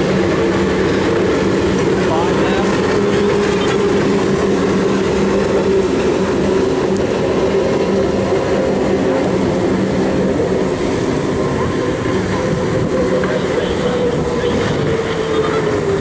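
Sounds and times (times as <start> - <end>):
powerboat engines droning: 0.0 - 16.0.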